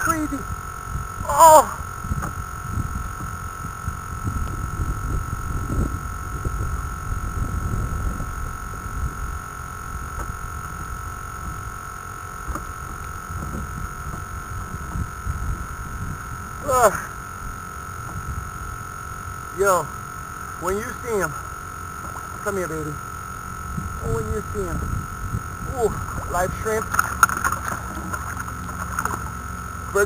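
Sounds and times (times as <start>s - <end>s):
high-pitched whine: 0.0s - 30.0s
wind buffeting microphone: 0.4s - 16.6s, 17.4s - 19.5s, 23.2s - 29.4s.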